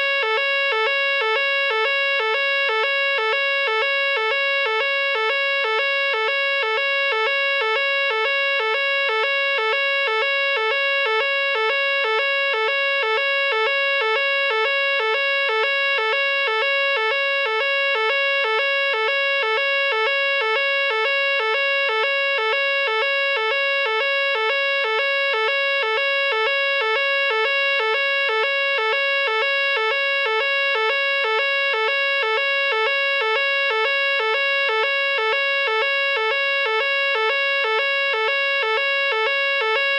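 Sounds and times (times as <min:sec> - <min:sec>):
two-tone fire alarm: 0:00.0 - 0:39.9.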